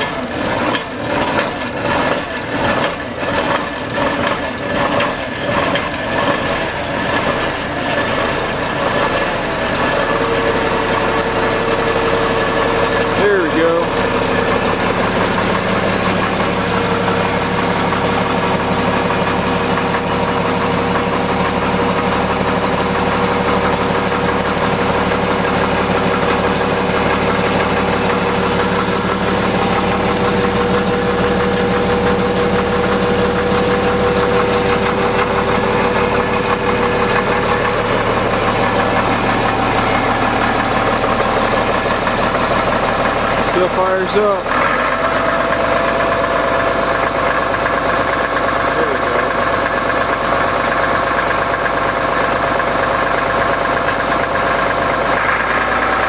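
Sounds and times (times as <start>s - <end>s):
bulldozer diesel engine idling: 0.0s - 56.0s.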